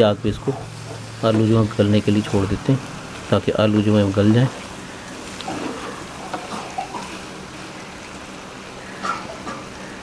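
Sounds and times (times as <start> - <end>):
meat and potatoes sizzling in a pot: 0.0 - 10.0.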